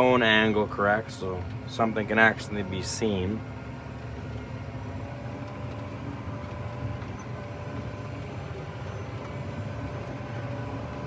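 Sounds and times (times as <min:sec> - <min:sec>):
faint whining tones: 0:00.0 - 0:11.0
tractor diesel engine running: 0:00.0 - 0:11.0.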